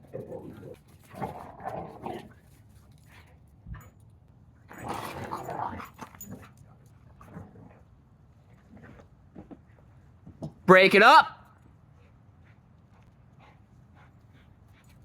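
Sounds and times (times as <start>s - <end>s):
dogs play-fighting: 0.0s - 10.5s, 11.8s - 15.0s.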